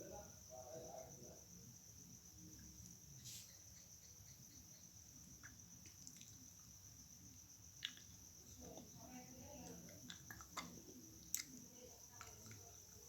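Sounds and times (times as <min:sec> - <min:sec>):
faint cricket chirring: 0:00.0 - 0:13.0.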